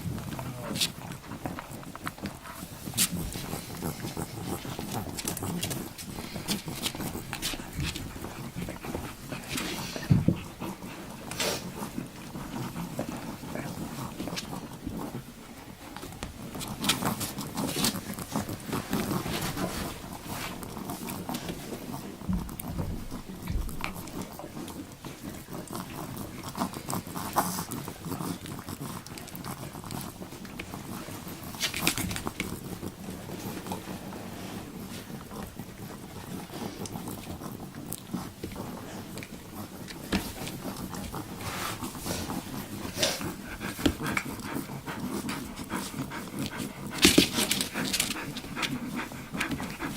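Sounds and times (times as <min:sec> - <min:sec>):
puppies making small sounds: 0:00.0 - 0:49.9.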